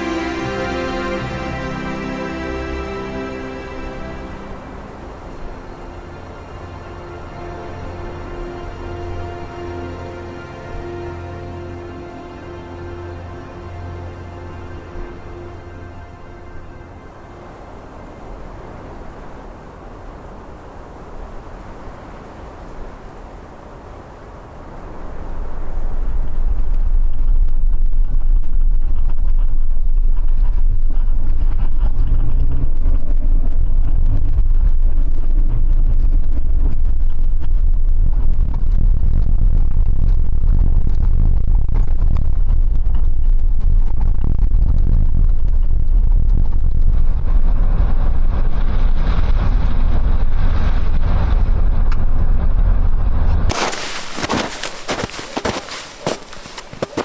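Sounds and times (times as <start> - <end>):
car engine and tyres rumbling: 3.2 - 57.0.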